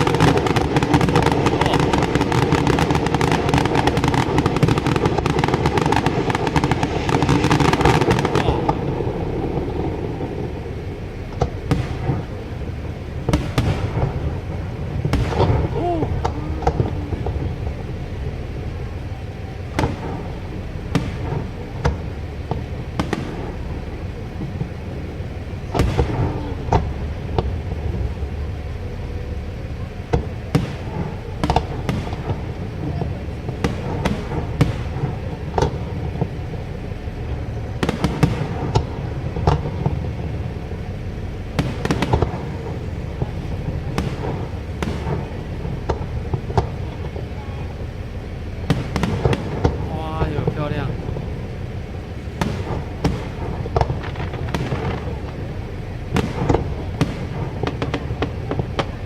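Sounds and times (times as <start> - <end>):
fireworks bangs: 0.0 - 59.0
steady low rumble: 0.0 - 59.0.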